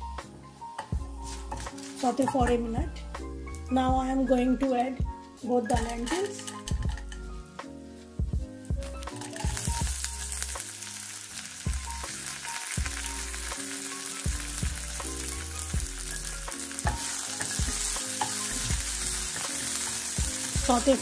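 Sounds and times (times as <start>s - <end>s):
oil sizzling: 0.0s - 3.9s, 5.4s - 21.0s
background piano music: 0.0s - 21.0s.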